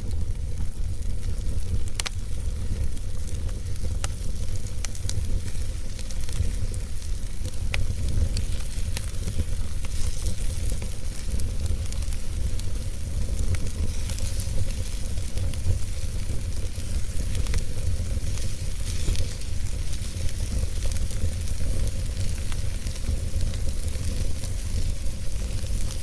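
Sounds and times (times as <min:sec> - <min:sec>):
wood fire crackling in fireplace: 0:00.0 - 0:26.0.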